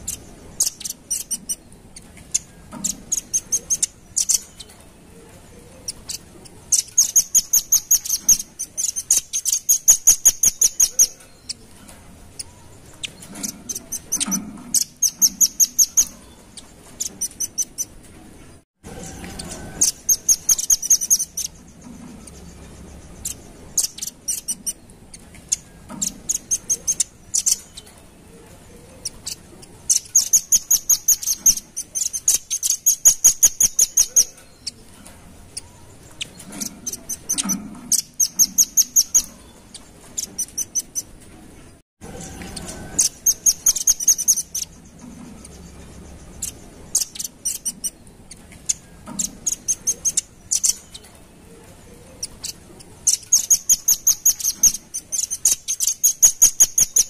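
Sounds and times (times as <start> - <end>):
bird chips and trills: 0.0 - 57.0.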